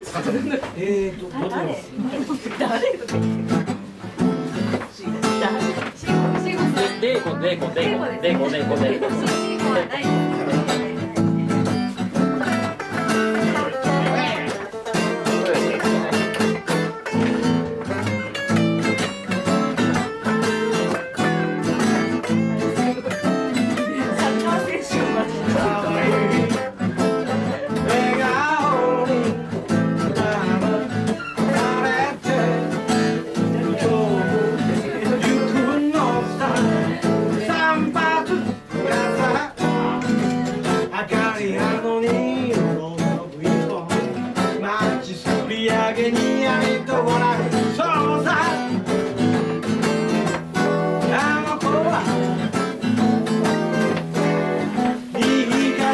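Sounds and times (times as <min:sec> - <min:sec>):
acoustic guitar strumming: 0:02.4 - 0:55.9
electric guitar playing: 0:03.1 - 0:55.9.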